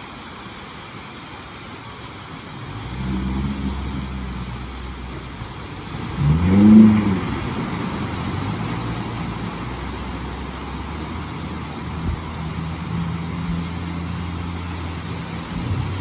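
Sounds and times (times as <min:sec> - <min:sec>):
motorboat engine revving: 0:02.4 - 0:16.0
wave breaking: 0:02.4 - 0:16.0.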